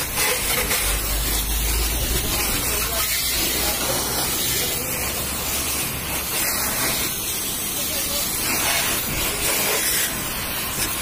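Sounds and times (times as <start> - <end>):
pressure washer spraying water: 0.0 - 11.0.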